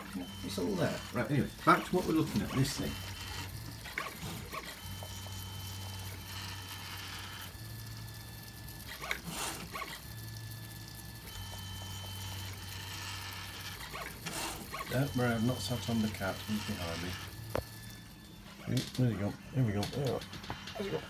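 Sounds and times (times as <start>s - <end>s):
stepper motors whining: 0.0s - 21.0s.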